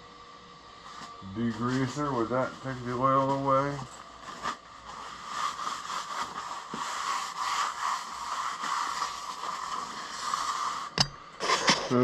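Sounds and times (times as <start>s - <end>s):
paper towel wiping metal: 1.6s - 12.0s.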